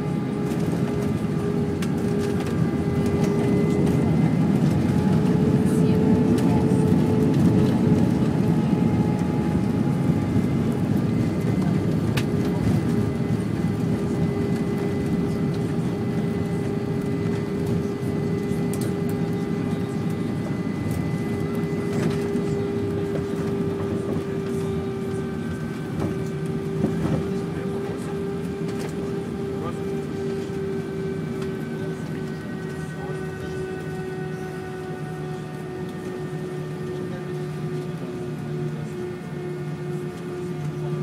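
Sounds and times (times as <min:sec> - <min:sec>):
jet engines roaring: 0:00.0 - 0:41.0.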